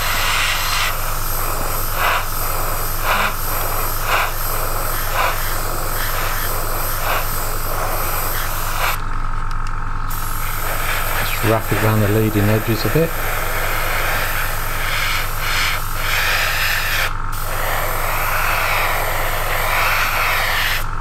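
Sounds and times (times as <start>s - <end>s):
airbrush hissing: 0.0s - 9.1s, 10.1s - 21.0s
compressor humming: 0.0s - 21.0s.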